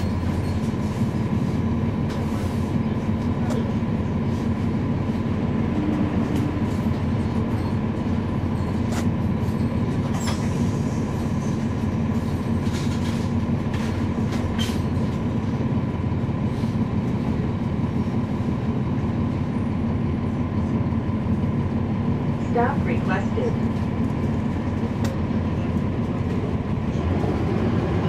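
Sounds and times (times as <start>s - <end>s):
bus body rattling: 0.0s - 28.0s
bus diesel engine droning: 0.0s - 28.0s.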